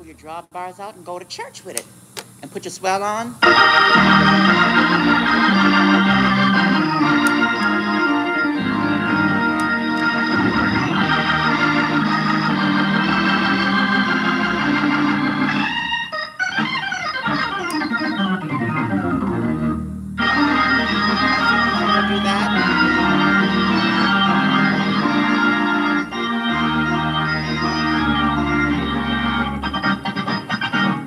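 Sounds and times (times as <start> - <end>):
electric organ playing chords: 3.4 - 31.0.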